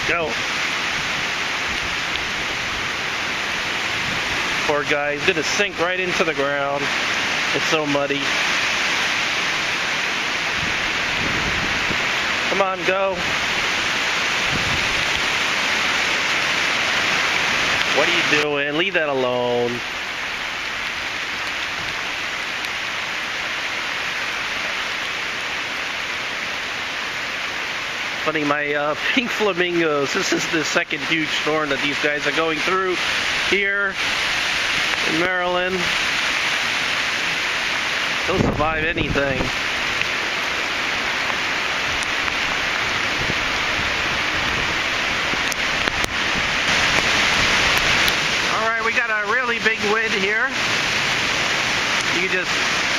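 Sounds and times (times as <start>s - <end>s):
heavy rain pattering: 0.0s - 52.9s
wind roaring: 0.0s - 52.9s.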